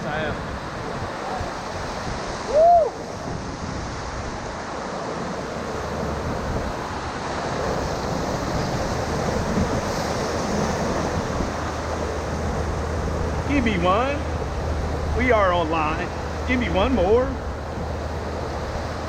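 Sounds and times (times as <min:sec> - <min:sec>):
whitewater rushing: 0:00.0 - 0:19.0
wind buffeting microphone: 0:00.0 - 0:19.0.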